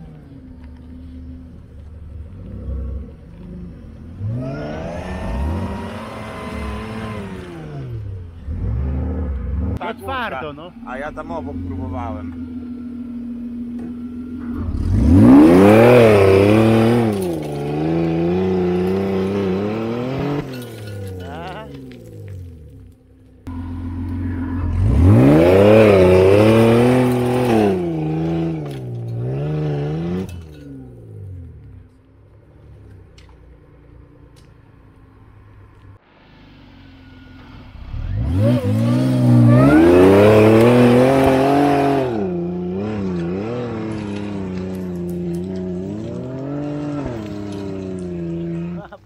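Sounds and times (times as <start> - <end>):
off-road engine revving under load: 0.0 - 22.7, 23.4 - 32.0, 37.0 - 49.0.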